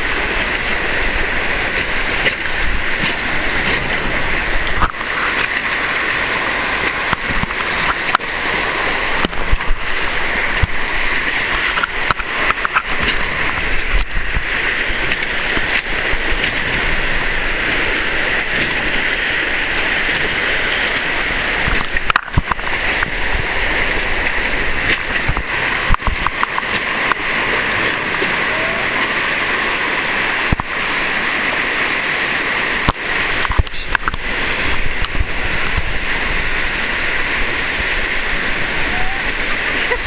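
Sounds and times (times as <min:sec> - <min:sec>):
river rapids rushing: 0:00.0 - 0:40.0
water splashing against raft: 0:00.0 - 0:40.0.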